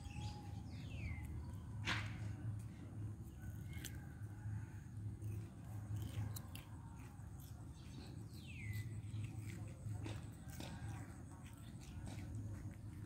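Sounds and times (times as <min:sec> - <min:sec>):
monkey crunching cucumber: 0:01.0 - 0:13.0.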